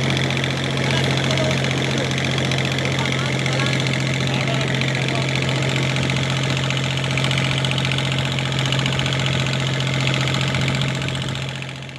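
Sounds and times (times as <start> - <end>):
boat engine droning: 0.0 - 11.9
boat moving through water: 0.0 - 11.9.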